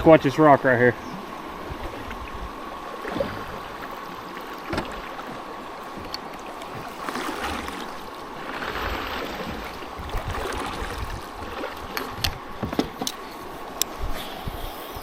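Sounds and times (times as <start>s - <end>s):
river water rushing and splashing: 0.0s - 15.0s.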